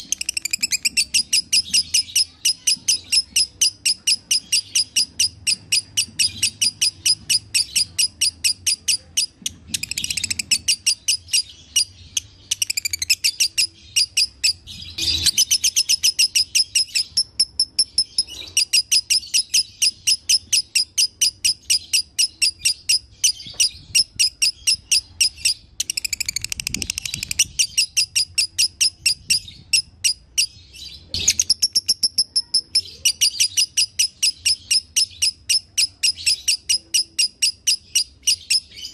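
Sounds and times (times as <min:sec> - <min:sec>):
lovebird rapid chirping: 0:00.0 - 0:38.9.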